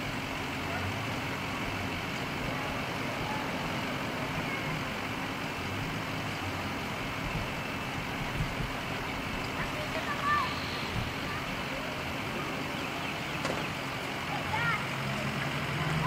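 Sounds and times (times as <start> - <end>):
outdoor background noise: 0.0 - 16.0
vehicle engine idling: 0.0 - 16.0.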